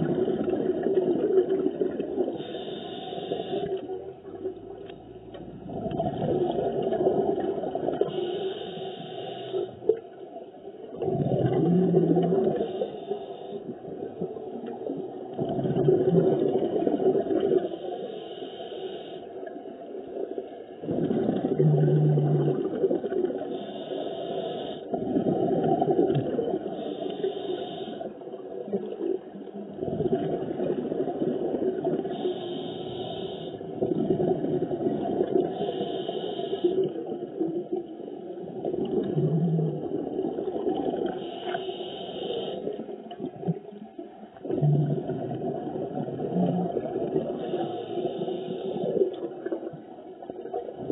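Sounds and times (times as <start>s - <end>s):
underwater bubbling rumble: 0.0s - 2.8s, 3.8s - 8.8s, 9.8s - 12.8s, 13.4s - 17.8s, 19.9s - 24.1s, 24.9s - 27.0s, 28.2s - 41.7s, 42.4s - 50.9s.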